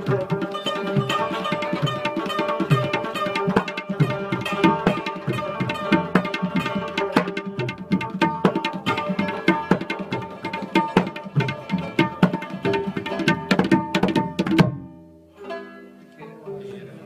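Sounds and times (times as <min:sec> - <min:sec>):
rabab and harmonium notes: 0:00.0 - 0:14.7
tabla playing: 0:00.0 - 0:15.9.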